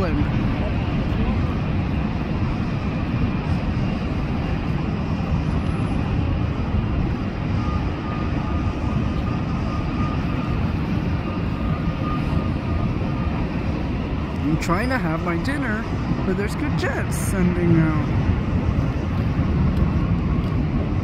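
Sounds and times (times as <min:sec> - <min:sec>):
faint steady whine: 0:00.0 - 0:21.0
jet engines roaring: 0:00.0 - 0:21.0.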